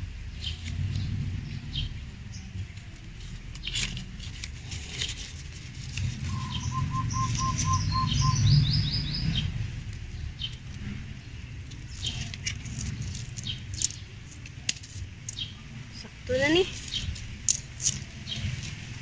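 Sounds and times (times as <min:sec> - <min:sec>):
low rumble: 0:00.0 - 0:19.0
birds chirping: 0:00.3 - 0:19.0.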